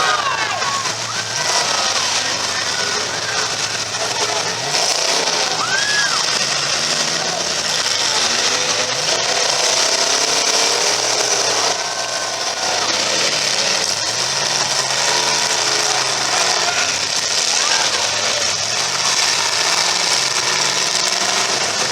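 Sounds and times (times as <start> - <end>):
car engines revving: 0.0 - 21.9
voices: 0.0 - 21.9.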